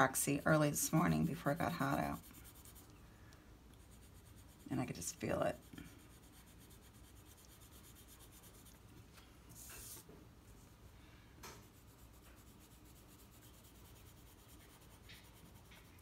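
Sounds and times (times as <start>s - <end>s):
pencil scratching on paper: 0.0s - 2.9s, 3.8s - 8.8s, 9.6s - 10.0s, 11.6s - 16.0s.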